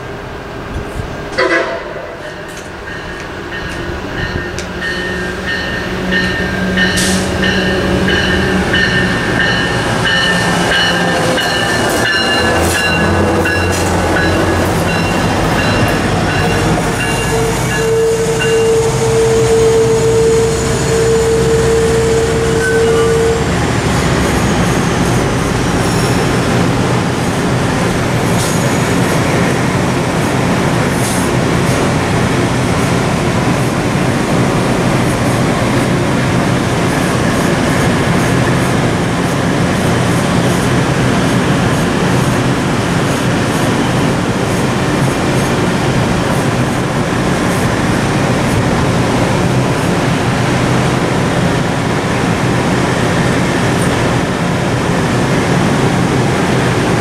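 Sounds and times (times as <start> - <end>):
diesel locomotive passing: 0.0 - 57.0
train coaches rolling on rails: 0.0 - 57.0.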